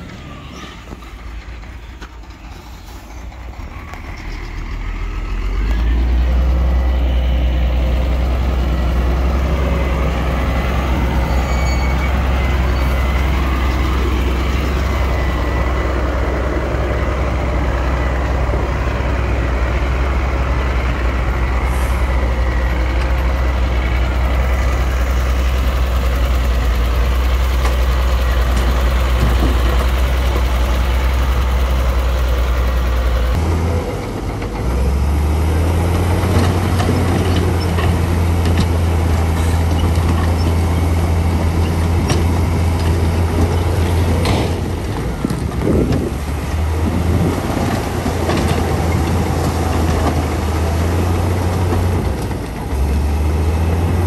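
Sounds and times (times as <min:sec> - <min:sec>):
heavy machinery diesel engines running: 0:00.0 - 0:54.0.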